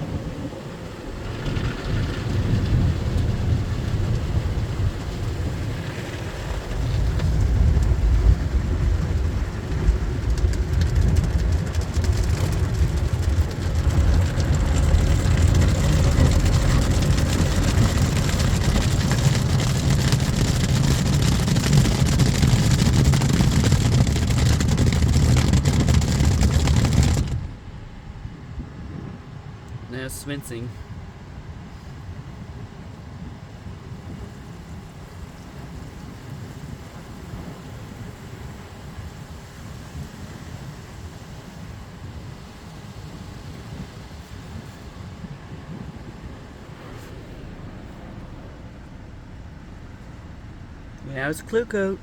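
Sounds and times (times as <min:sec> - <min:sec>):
car wash machinery noise: 0:00.0 - 0:30.4, 0:31.1 - 0:52.0
car wash water spray: 0:02.2 - 0:27.6, 0:33.9 - 0:52.0.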